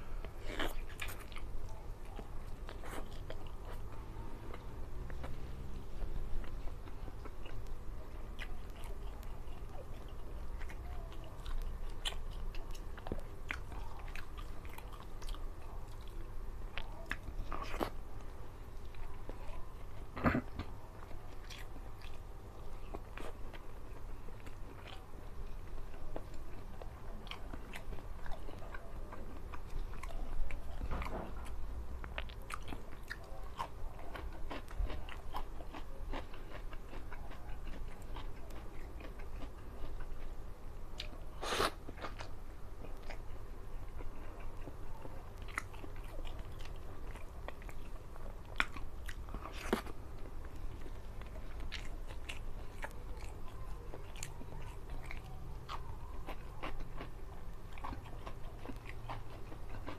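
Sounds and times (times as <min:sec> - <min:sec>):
chewing and biting food: 0:00.1 - 0:59.9
food crunching: 0:00.1 - 0:59.9.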